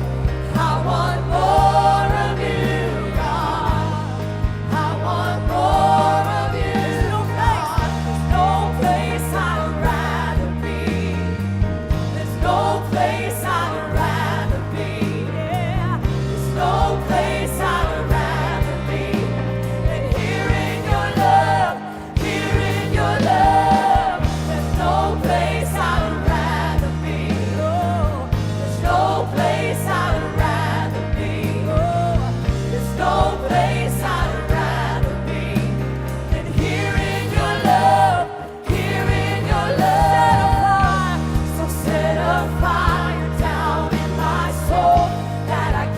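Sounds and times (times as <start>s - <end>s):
keyboard and bass chords: 0.0s - 45.9s.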